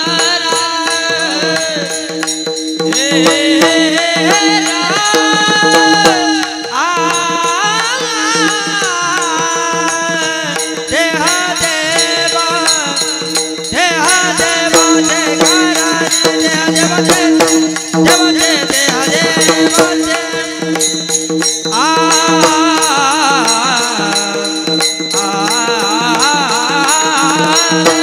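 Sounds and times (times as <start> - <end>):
drum beat: 0.0 - 28.0
hand cymbals: 0.0 - 28.0.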